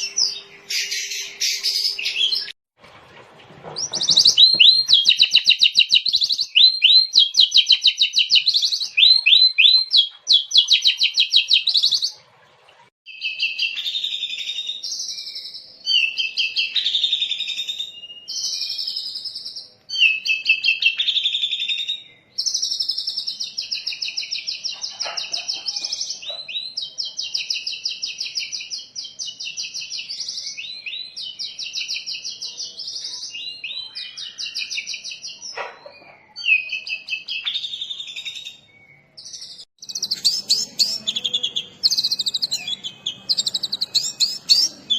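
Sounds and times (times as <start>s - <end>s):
bird singing trills: 0.0s - 2.6s, 3.8s - 12.2s, 13.1s - 44.9s.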